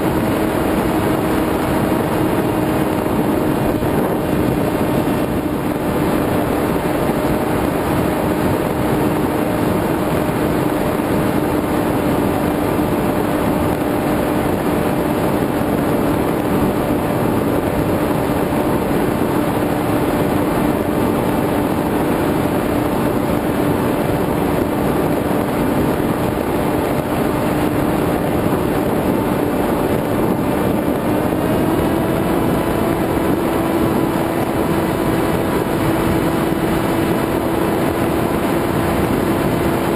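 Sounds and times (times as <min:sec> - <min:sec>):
model aircraft motor drone: 0:00.0 - 0:39.9
rushing air noise: 0:00.0 - 0:39.9.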